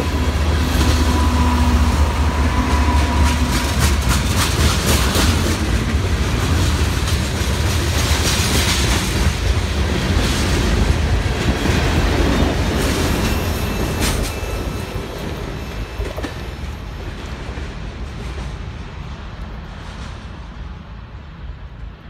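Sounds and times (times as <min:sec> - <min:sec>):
train wheels clacking on rails: 0:00.0 - 0:20.9
freight train rumbling past: 0:00.0 - 0:22.0.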